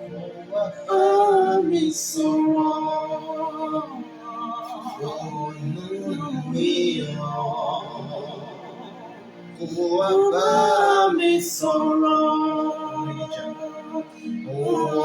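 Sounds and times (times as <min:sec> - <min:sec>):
soft musical accompaniment: 0:00.0 - 0:15.0.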